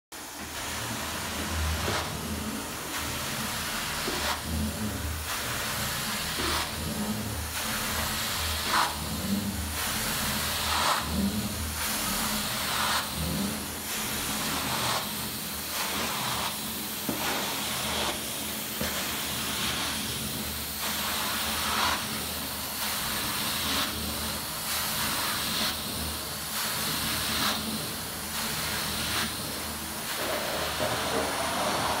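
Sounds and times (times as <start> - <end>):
suction hiss of cleaning wand: 0.3 - 32.0.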